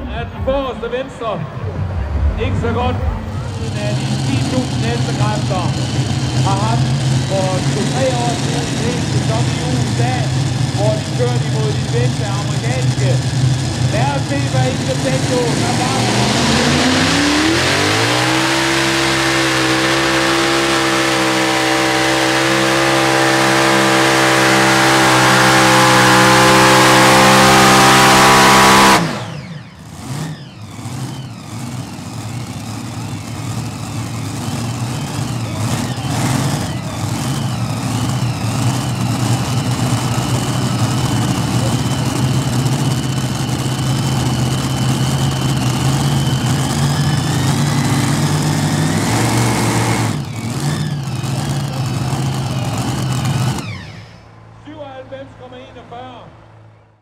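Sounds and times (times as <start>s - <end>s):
engine idling: 0.0s - 56.2s
tractor engine at full throttle: 0.0s - 56.5s.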